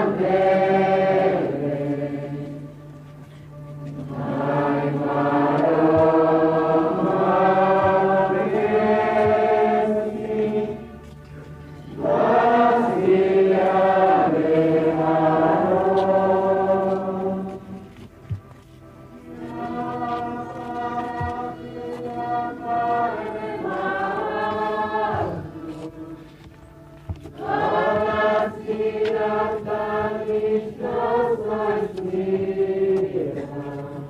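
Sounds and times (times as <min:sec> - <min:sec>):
group singing a hymn: 0:00.0 - 0:03.0, 0:03.8 - 0:11.1, 0:11.7 - 0:18.4, 0:19.1 - 0:34.0.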